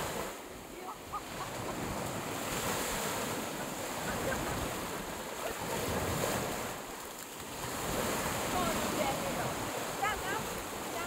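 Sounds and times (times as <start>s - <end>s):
waves breaking on shore: 0.0s - 11.0s.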